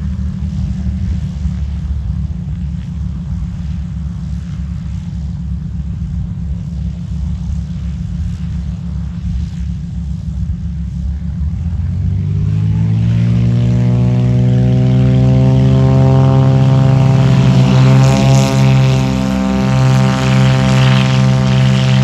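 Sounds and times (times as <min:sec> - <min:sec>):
propeller engine rumbling: 0:00.0 - 0:22.0.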